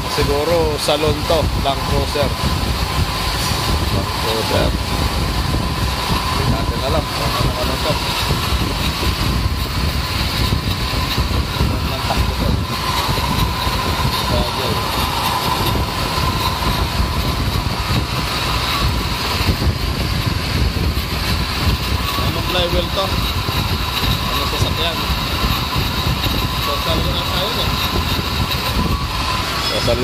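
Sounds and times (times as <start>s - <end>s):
metal lathe running: 0.0s - 30.0s
thin steady high tone: 0.0s - 30.0s.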